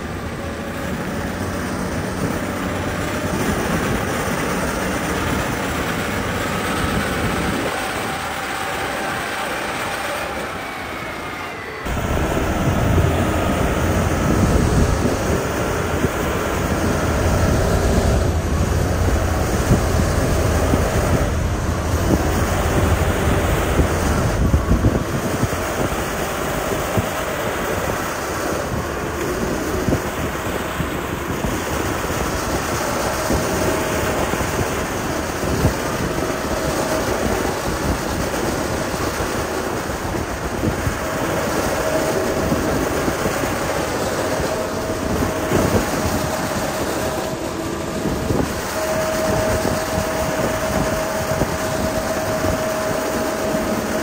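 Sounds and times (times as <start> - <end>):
heavy machinery diesel engine rumbling: 0.0 - 54.0.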